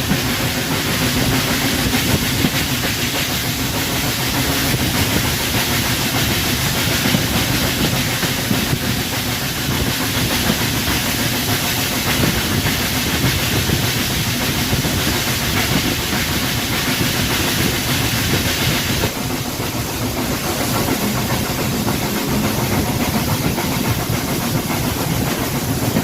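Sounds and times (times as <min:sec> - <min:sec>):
loud hiss: 0:00.0 - 0:26.0
train rumbling: 0:00.0 - 0:26.0.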